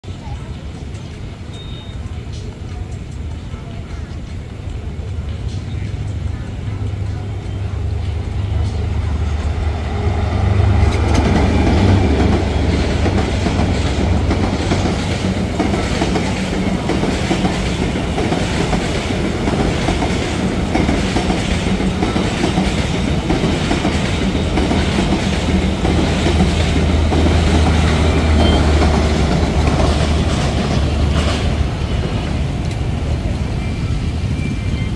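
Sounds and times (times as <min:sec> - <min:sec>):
locomotive engine drone: 0:00.1 - 0:34.9
train wheels clattering over rails: 0:00.1 - 0:34.9.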